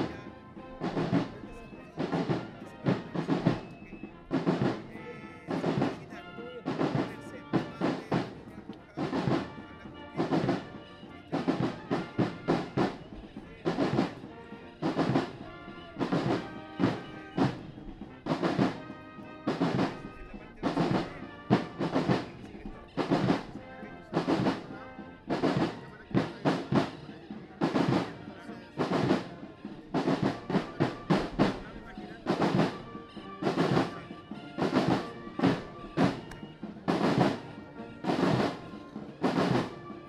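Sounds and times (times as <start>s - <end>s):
snare drums: 0.0s - 40.0s.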